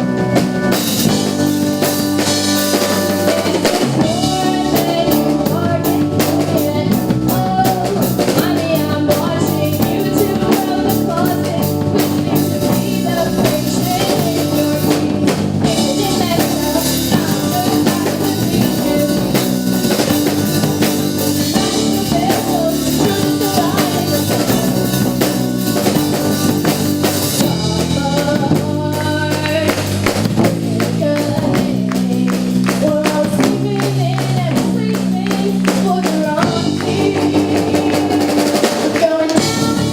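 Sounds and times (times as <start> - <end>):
drum kit beat: 0.0 - 39.9
live band playing: 0.0 - 39.9
person singing: 0.0 - 39.9.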